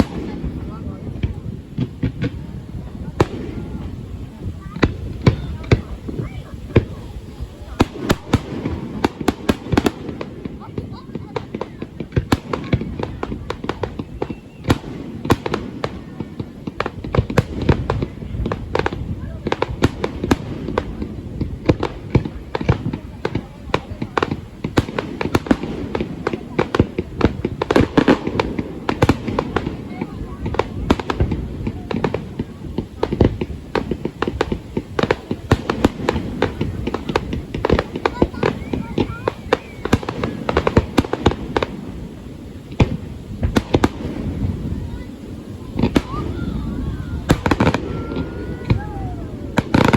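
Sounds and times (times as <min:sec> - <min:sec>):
fireworks bangs and cracks: 0:00.0 - 0:49.9.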